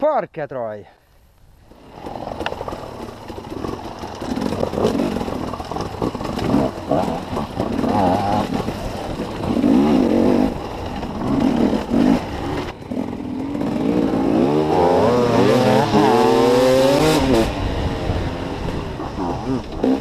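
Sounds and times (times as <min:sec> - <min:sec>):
dirt bike engine revving: 0:01.8 - 0:20.0.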